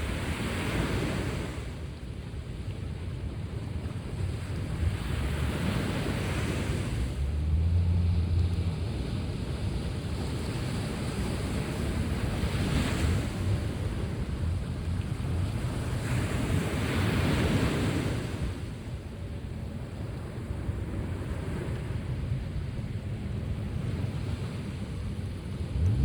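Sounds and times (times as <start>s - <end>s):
sea waves washing onto shore: 0.0s - 26.0s
wind buffeting microphone: 0.0s - 26.0s.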